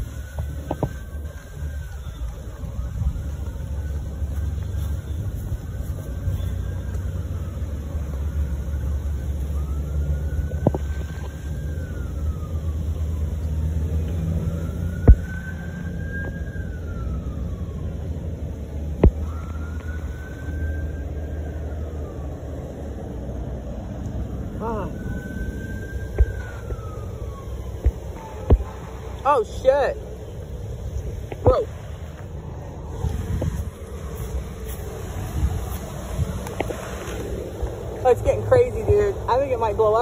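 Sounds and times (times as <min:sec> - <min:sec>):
siren wailing: 0:00.0 - 0:40.0.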